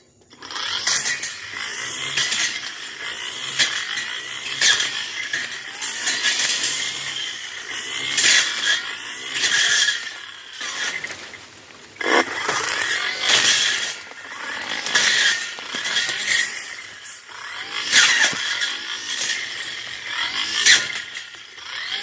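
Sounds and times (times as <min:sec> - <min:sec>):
blade cutting through brush: 0:00.1 - 0:22.0
brush cutter engine revving: 0:00.1 - 0:22.0.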